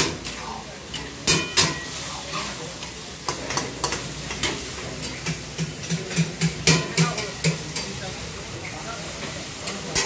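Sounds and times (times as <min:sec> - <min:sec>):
sizzling pans: 0:00.0 - 0:10.0.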